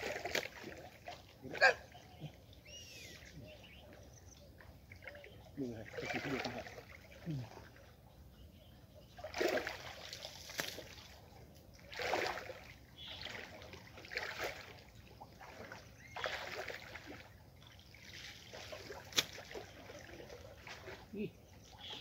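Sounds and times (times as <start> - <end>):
river water sloshing and splashing: 0.0 - 22.0.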